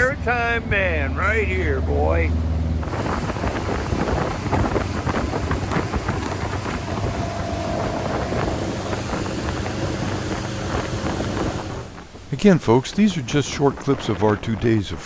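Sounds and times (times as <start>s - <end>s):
motorboat engine running: 0.0s - 12.5s
wind on microphone: 2.6s - 15.0s.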